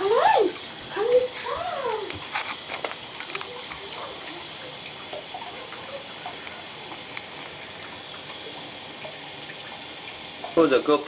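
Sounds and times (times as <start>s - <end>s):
water running from bathtub tap: 0.0s - 11.0s.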